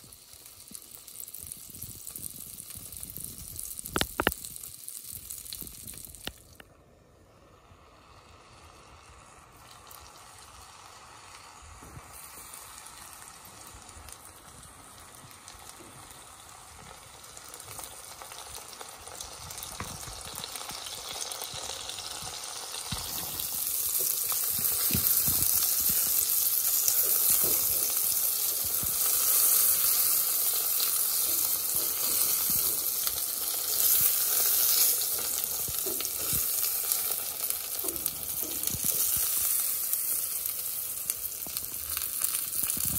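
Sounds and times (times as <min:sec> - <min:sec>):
mushrooms sizzling in a pan: 0:00.0 - 0:06.6, 0:07.7 - 0:42.9.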